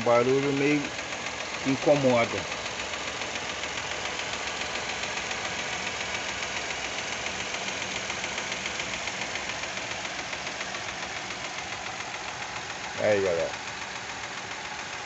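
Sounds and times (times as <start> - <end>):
car engine idling: 0.0 - 15.0
rapid engine ticking: 0.0 - 15.0.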